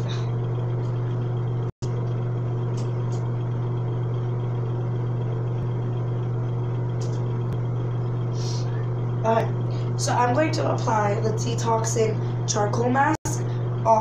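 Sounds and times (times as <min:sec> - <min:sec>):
low hum with hiss: 0:00.0 - 0:14.0.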